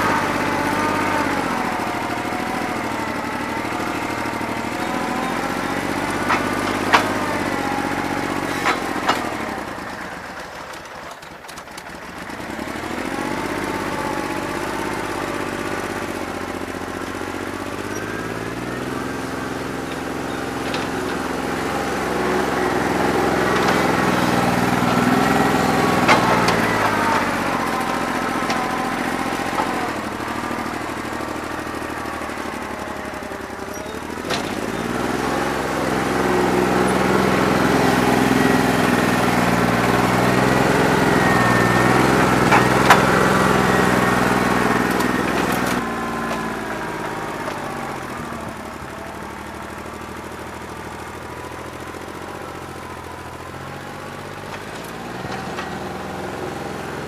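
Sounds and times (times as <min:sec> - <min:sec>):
diesel engine running: 0:00.0 - 0:57.0
engine knocks: 0:00.0 - 0:57.0.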